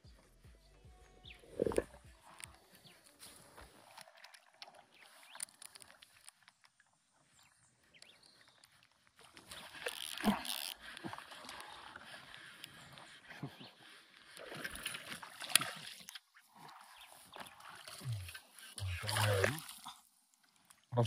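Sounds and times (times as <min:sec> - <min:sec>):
fishing tackle rustling and scraping: 0:01.4 - 0:20.9
water sloshing: 0:01.5 - 0:21.0.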